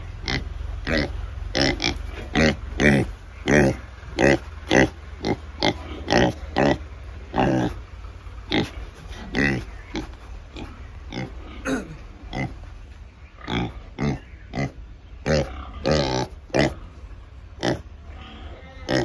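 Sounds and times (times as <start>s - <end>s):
pig grunting: 0.2s - 7.8s, 8.5s - 12.6s, 13.4s - 17.0s, 17.6s - 19.0s.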